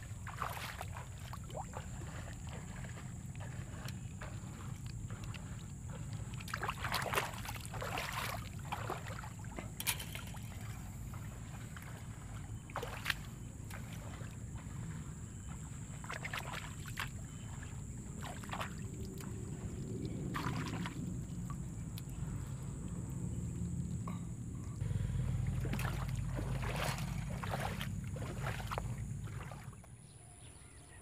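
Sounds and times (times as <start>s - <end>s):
steady low rumble: 0.0s - 9.8s, 10.4s - 16.2s, 16.9s - 29.8s
splashes and squelches in mud: 0.0s - 24.1s, 24.8s - 30.0s.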